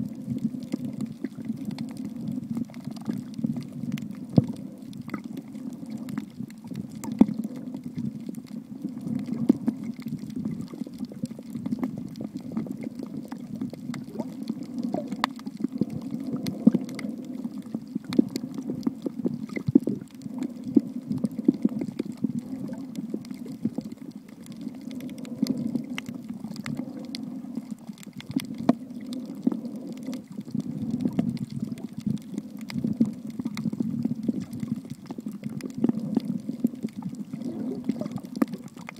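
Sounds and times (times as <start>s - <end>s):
underwater clicks and crackles: 0.0s - 38.9s
underwater rumble of moving water: 0.0s - 38.9s.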